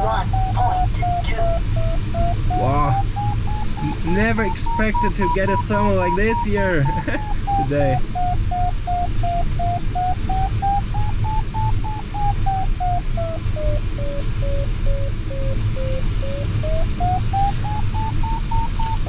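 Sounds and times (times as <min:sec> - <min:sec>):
variometer beeping: 0:00.0 - 0:19.0.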